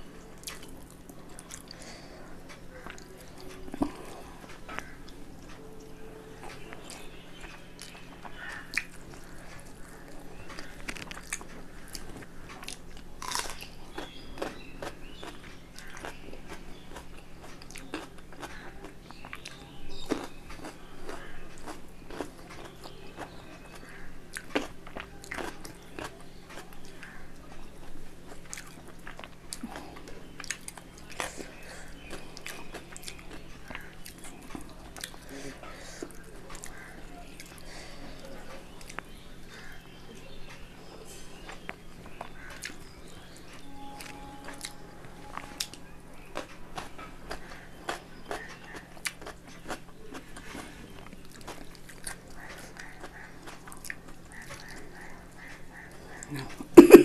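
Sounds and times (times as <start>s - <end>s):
steady low hum: 0.0s - 57.0s
chewing with crunchy bites: 0.1s - 57.0s.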